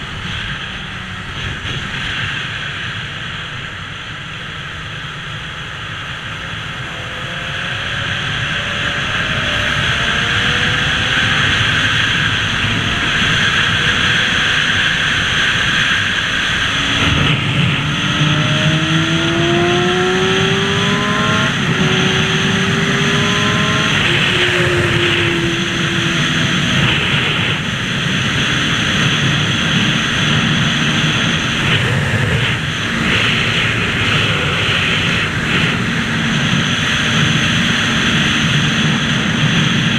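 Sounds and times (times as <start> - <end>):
motorcycle engine accelerating: 0.0 - 39.9
wind rushing: 6.8 - 39.9.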